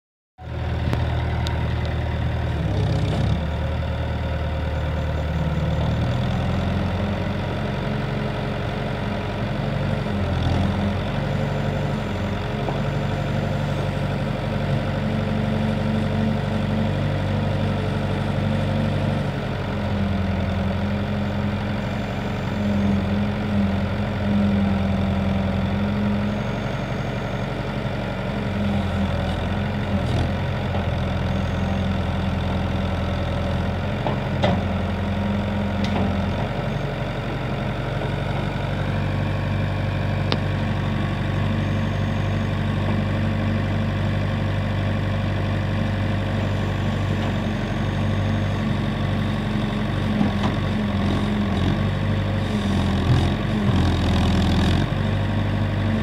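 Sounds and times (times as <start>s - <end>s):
tractor engine running: 0.4s - 56.0s.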